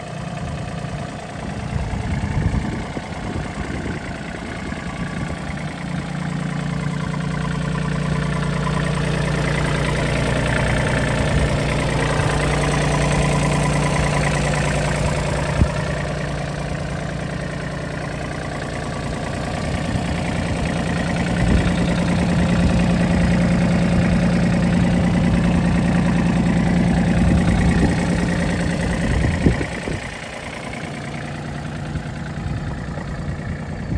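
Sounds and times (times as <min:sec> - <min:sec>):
tractor diesel engine revving: 0:00.0 - 0:33.9.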